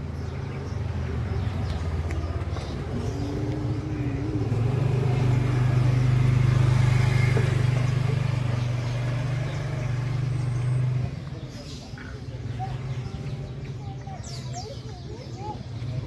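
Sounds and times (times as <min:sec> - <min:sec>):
vehicle engine drone: 0:00.0 - 0:14.3.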